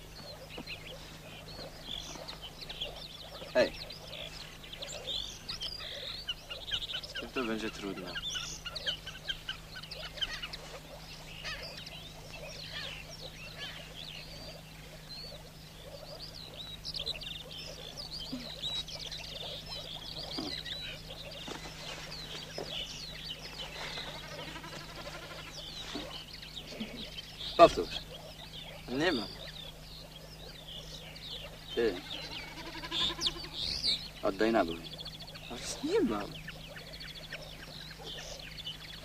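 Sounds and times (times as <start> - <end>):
high animal calls chirping: 0.0 - 39.0
steady low hum: 0.0 - 39.0.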